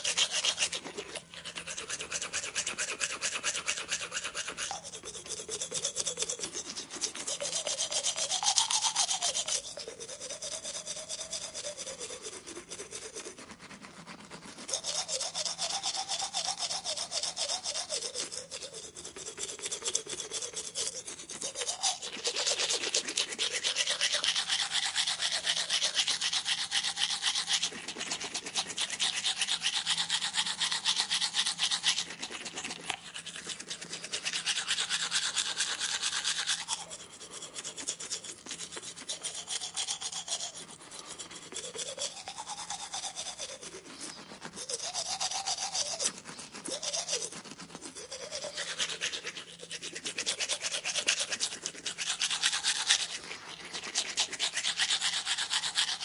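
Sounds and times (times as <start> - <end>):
toothbrush scrubbing teeth: 0.0 - 56.0.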